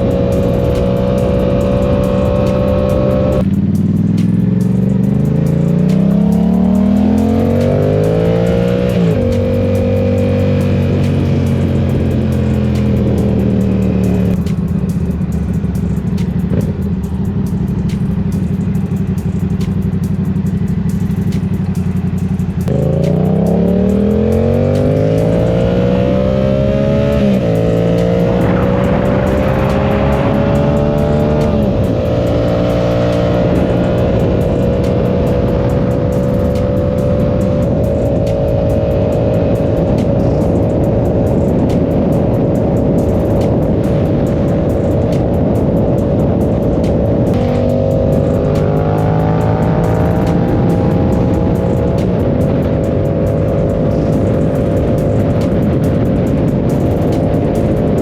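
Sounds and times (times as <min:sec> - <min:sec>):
motorcycle engine growling: 0:00.0 - 0:58.0.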